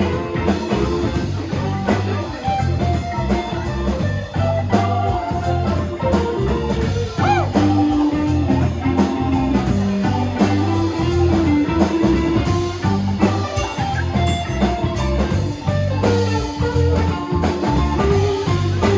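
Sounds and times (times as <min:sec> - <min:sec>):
bass guitar: 0:00.0 - 0:18.9
drum kit: 0:00.0 - 0:18.9
electric guitar bending notes: 0:00.0 - 0:18.9.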